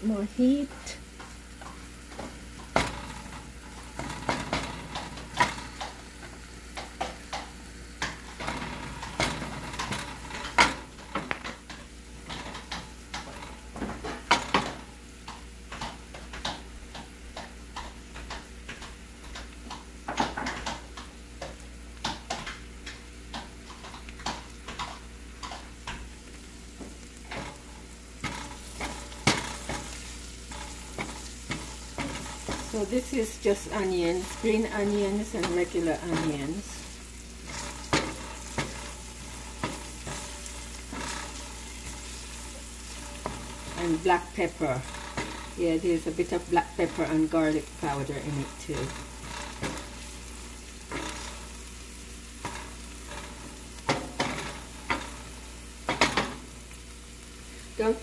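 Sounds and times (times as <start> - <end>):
onions sizzling in frying pan: 0.0 - 58.0
wooden spoon scraping a pan: 0.7 - 21.6, 22.3 - 56.6.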